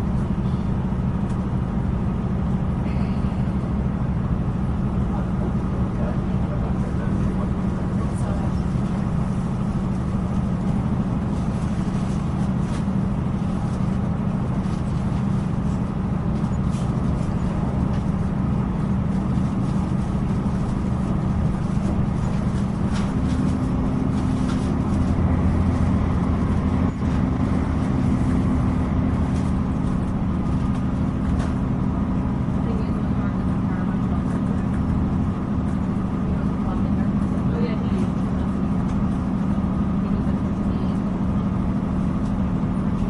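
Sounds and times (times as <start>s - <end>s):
higher engine hum: 0.0s - 43.0s
train engine and wheels rumbling: 0.0s - 43.0s.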